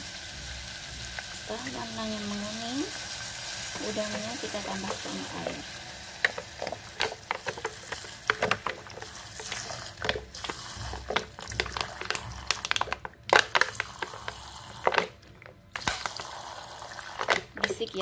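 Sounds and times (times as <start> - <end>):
hot oil sizzling and popping: 0.0 - 18.0.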